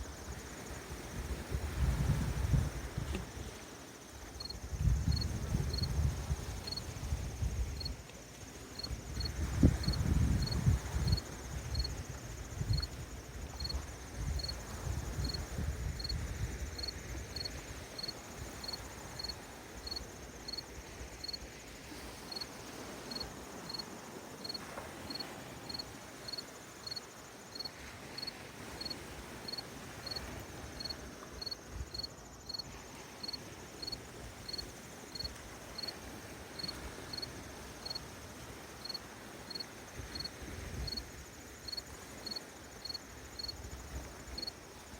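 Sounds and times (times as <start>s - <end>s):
cricket chirping: 0.0s - 44.9s
gentle lake waves: 0.0s - 44.9s.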